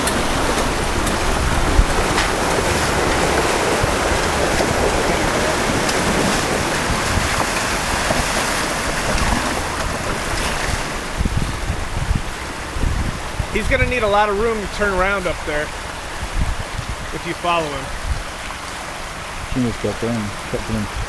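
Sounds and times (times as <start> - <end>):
car engine rumbling: 0.0 - 21.0
creek water rushing and splashing: 0.0 - 21.0.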